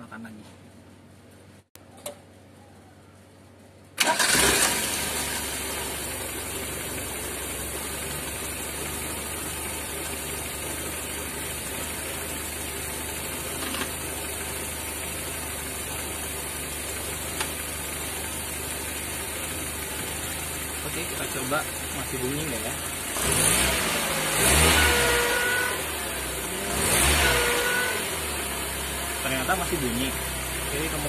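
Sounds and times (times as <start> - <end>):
car engine idling: 2.6 - 31.0
car engine starting: 3.9 - 31.0.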